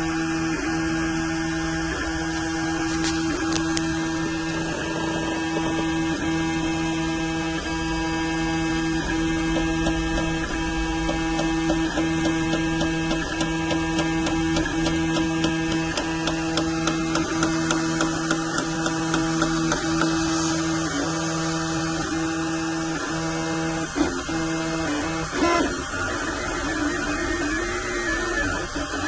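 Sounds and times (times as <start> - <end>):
stepper motors humming: 0.0 - 29.0.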